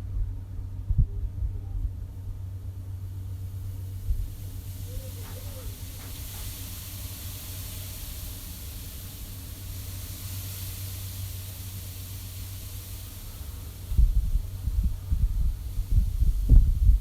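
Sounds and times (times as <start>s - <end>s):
blizzard wind rumbling: 0.0s - 17.0s
hiss of driven snow: 2.6s - 17.0s.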